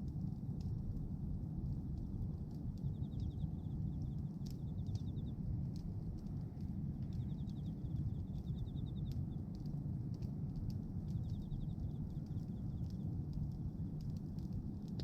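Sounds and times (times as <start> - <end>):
fire crackles: 0.0 - 15.0
wood fire rumbling: 0.0 - 15.0.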